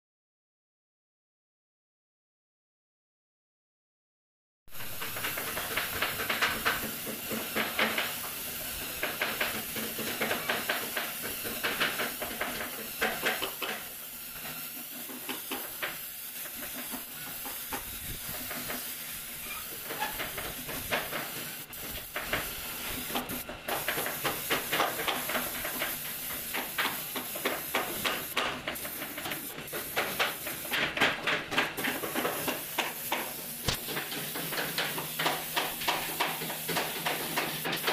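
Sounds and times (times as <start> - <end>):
spray gun hissing: 4.7 - 37.9.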